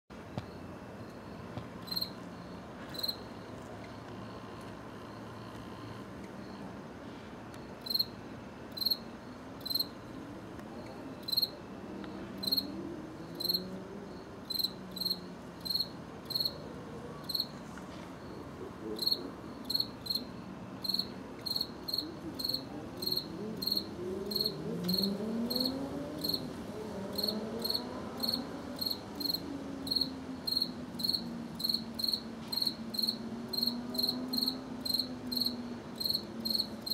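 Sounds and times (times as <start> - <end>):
cricket chirping: 0.3 - 6.8, 7.5 - 36.9.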